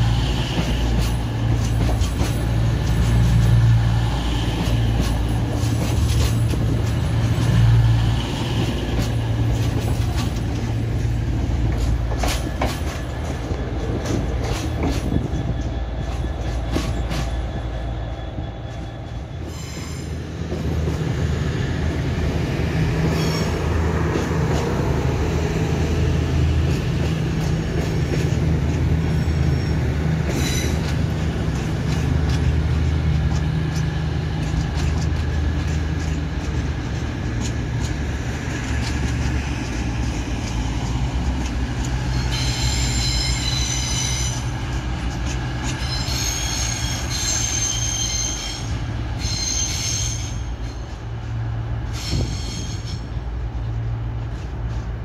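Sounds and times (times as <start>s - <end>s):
train wheel squeal: 0.0s - 21.4s, 23.0s - 25.7s, 26.7s - 37.8s, 38.4s - 53.8s
diesel train engine humming: 0.0s - 55.0s.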